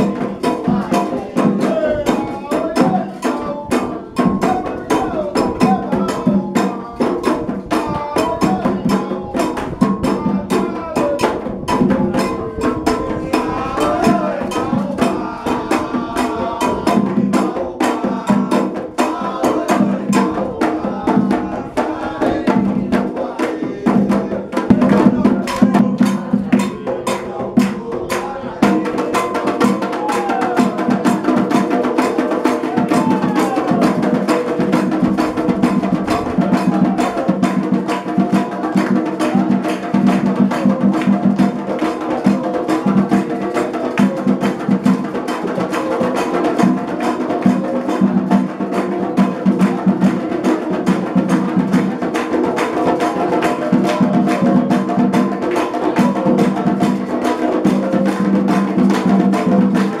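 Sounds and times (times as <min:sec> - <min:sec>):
chorus chanting: 0:00.0 - 1:00.0
hand drums playing fast rhythm: 0:00.0 - 1:00.0
wood-block-like repeating part: 0:00.0 - 1:00.0.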